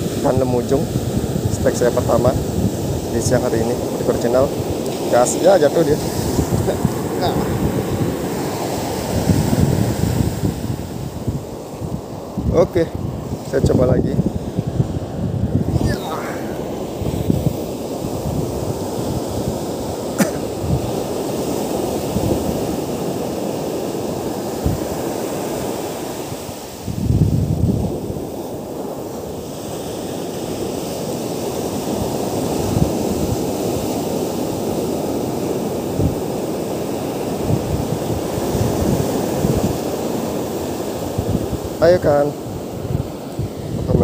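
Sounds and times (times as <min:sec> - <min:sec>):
ocean surf on sand beach: 0:00.0 - 0:44.0
wind buffeting microphone: 0:00.0 - 0:44.0.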